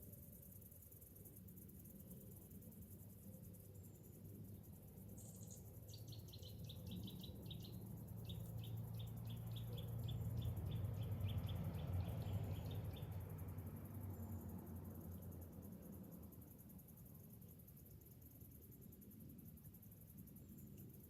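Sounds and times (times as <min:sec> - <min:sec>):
cicada chirping: 0:00.0 - 0:21.0.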